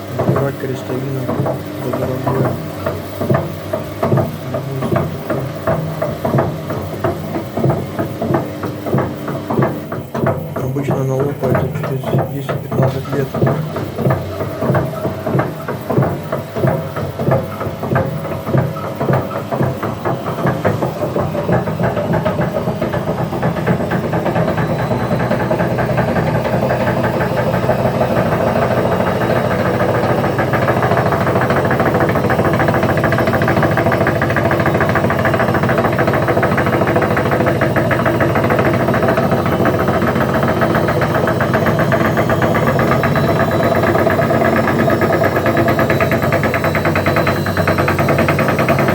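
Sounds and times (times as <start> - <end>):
washing machine drum knocking: 0.0 - 48.9
washing machine spin rumble: 0.0 - 48.9.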